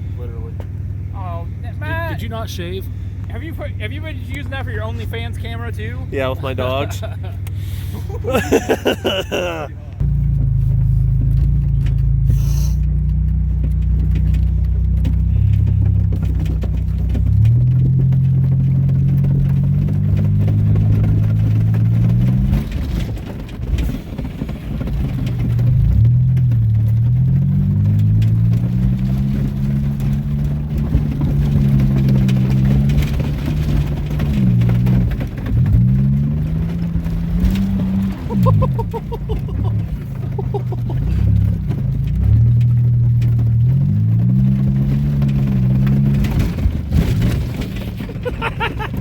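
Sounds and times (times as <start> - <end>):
car engine revving hard: 7.6 - 23.2, 25.0 - 49.0.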